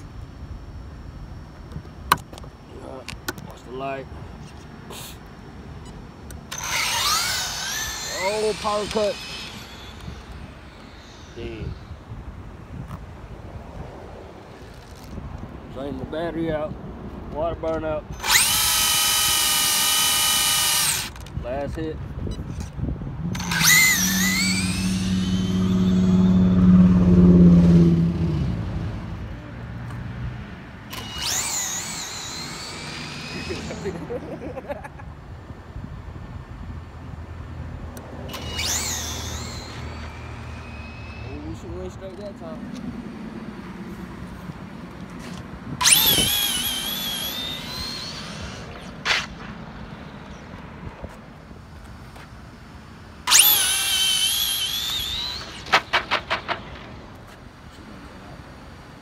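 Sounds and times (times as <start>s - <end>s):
electric motor high whine: 0.0s - 16.7s, 17.7s - 59.0s
steady low hum: 0.0s - 55.7s.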